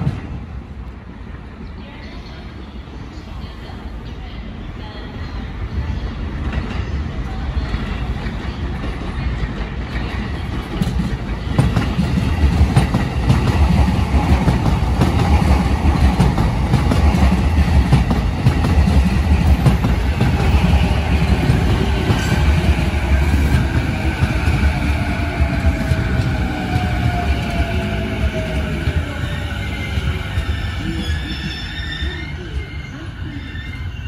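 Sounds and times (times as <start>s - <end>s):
train wheels rumbling on rail: 0.0s - 2.9s, 4.5s - 34.0s.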